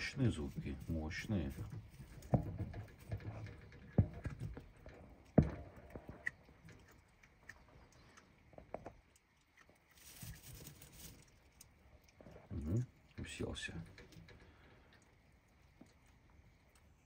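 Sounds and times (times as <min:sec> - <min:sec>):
fox gnawing and crunching: 0:00.0 - 0:17.0.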